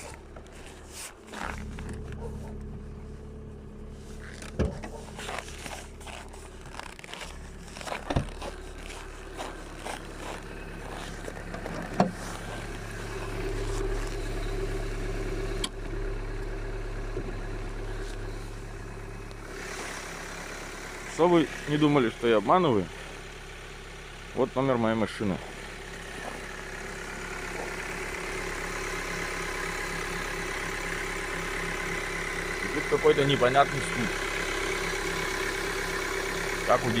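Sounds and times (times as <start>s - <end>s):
car engine idling with knock: 0.0s - 37.0s.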